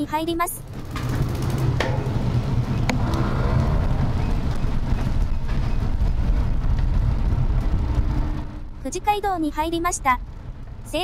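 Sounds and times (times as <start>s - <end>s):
vehicle wind and road noise: 0.0s - 11.0s.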